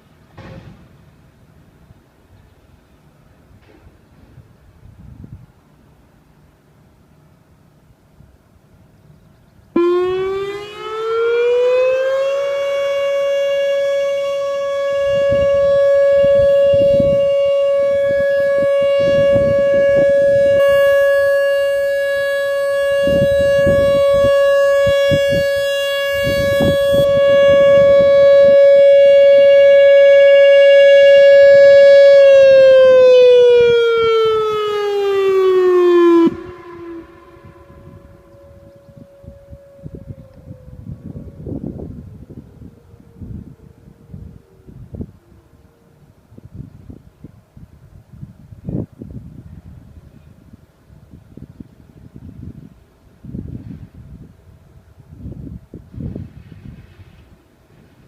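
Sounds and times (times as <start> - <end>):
tornado warning siren: 9.7 - 58.0.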